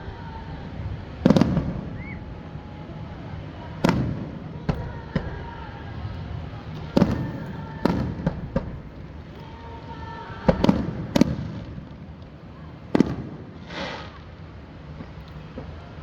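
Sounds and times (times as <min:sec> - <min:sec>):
fireworks booming: 0:00.0 - 0:16.0
fireworks hissing crackle: 0:00.0 - 0:16.0.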